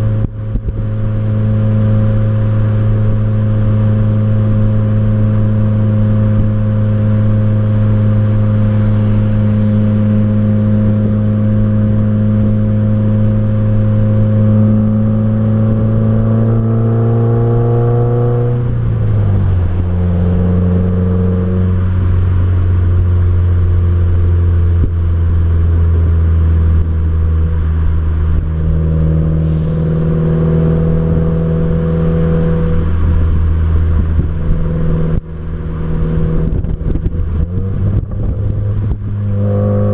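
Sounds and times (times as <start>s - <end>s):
car exhaust droning: 0.0s - 39.9s
road and wind noise: 0.0s - 39.9s.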